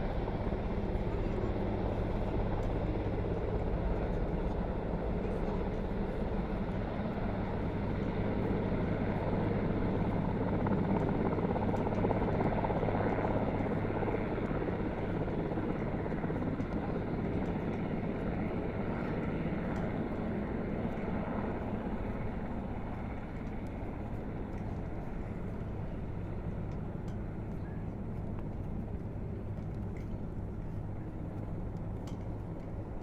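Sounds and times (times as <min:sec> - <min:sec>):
helicopter rotor and engine drone: 0:00.0 - 0:33.0.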